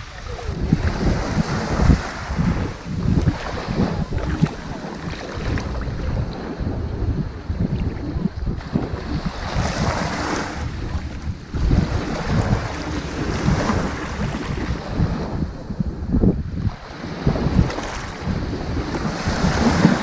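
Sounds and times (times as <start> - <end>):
ocean waves on beach: 0.0 - 20.0
wind buffeting microphone: 0.0 - 20.0.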